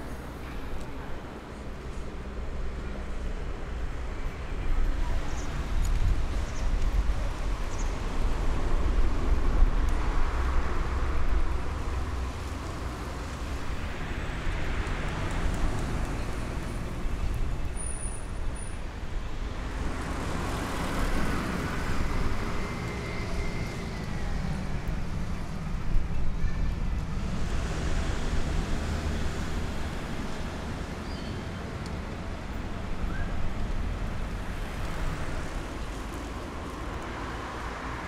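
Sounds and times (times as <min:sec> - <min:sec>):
road traffic rumble: 0:00.0 - 0:38.0
vehicles passing: 0:00.0 - 0:38.0.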